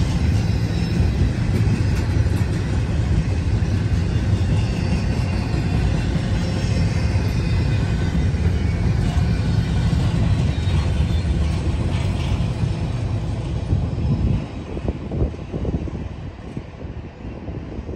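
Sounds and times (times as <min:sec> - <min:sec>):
freight train rolling past: 0:00.0 - 0:17.9.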